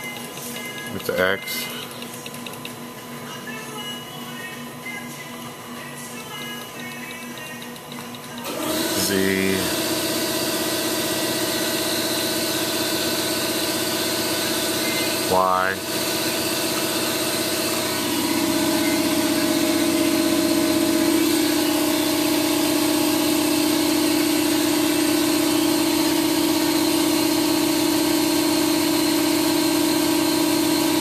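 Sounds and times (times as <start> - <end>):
low machine whine: 0.0 - 31.0
machine hum: 0.0 - 31.0.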